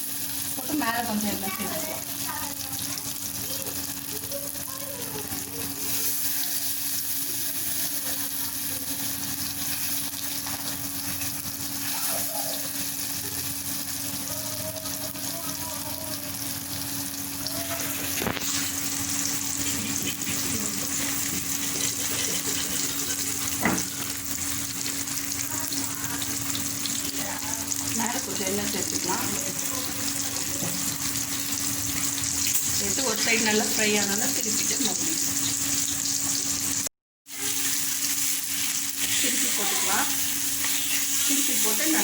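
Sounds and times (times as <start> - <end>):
fish sizzling in oil: 0.0 - 42.0.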